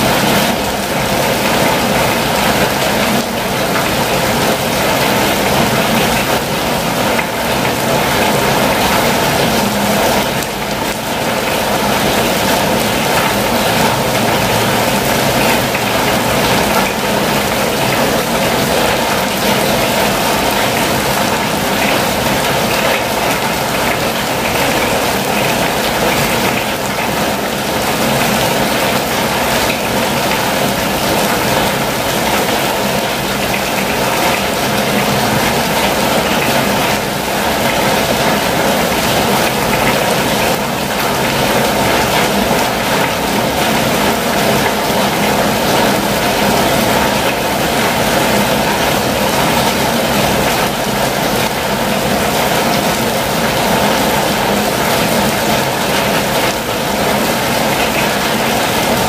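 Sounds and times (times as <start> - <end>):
rain on a van roof: 0.0 - 59.0.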